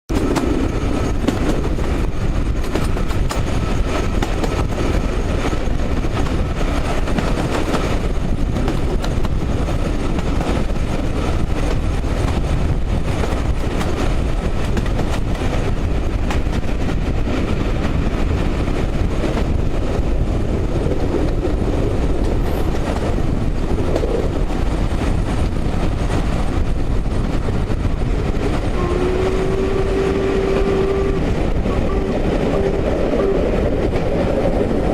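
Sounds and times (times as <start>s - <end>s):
steam train rumbling past: 0.1s - 34.9s
wheels clicking over rail joints: 0.1s - 34.9s.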